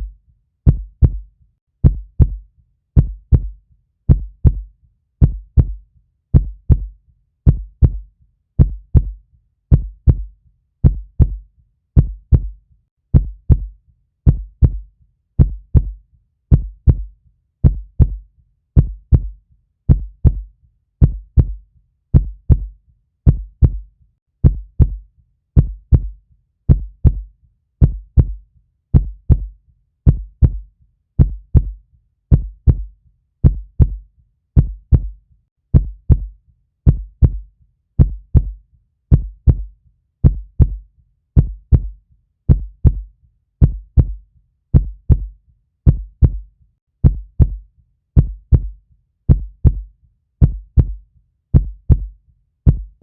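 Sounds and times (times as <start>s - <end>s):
heartbeat thumps: 0.7s - 2.4s, 3.0s - 11.4s, 12.0s - 18.2s, 18.8s - 25.0s, 25.6s - 34.0s, 34.6s - 40.8s, 41.4s - 47.6s, 48.2s - 53.0s.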